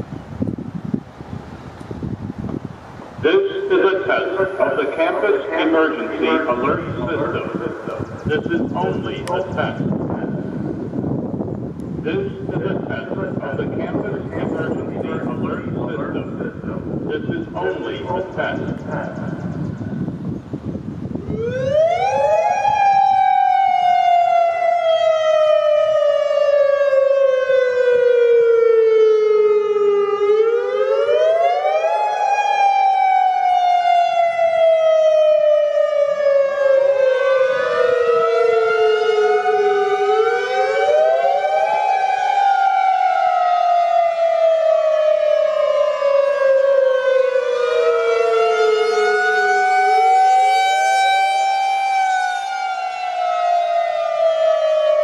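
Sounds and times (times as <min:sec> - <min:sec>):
warning siren wailing: 0:00.0 - 0:55.0
second siren wailing: 0:03.2 - 0:20.2, 0:21.0 - 0:55.0.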